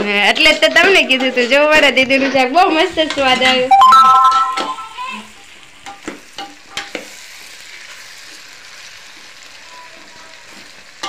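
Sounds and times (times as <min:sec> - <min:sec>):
curry sizzling in pot: 0:00.0 - 0:03.8, 0:04.6 - 0:11.0.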